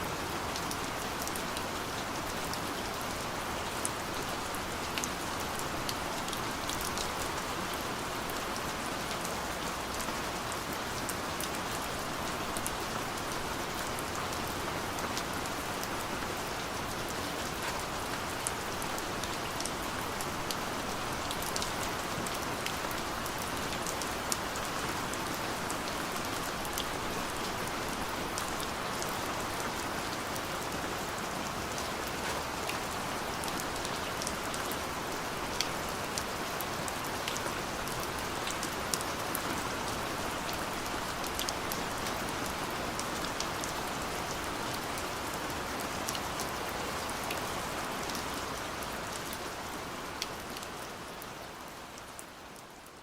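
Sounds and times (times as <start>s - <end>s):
light rain falling: 0.0s - 53.0s.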